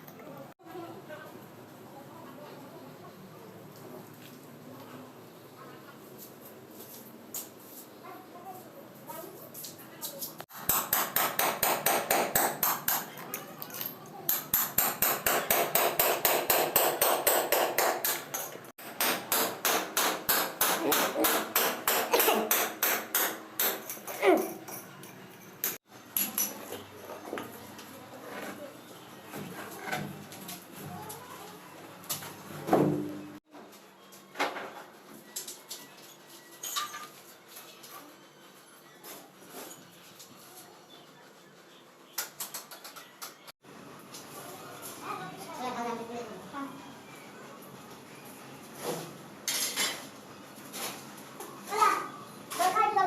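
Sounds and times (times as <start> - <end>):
faint background noise: 0.0 - 53.0.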